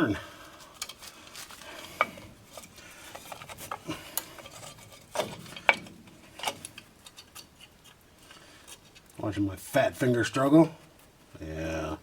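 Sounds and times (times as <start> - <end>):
light metal scraping: 0.5 - 11.1.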